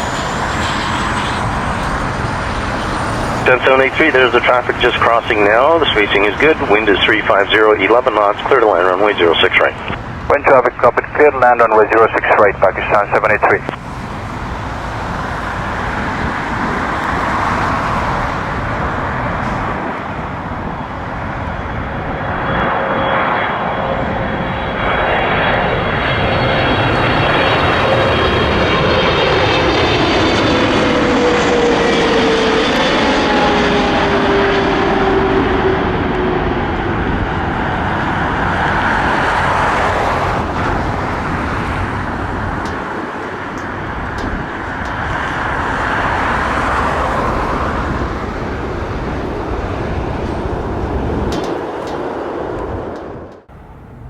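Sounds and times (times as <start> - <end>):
jet engines passing close: 0.0 - 54.0.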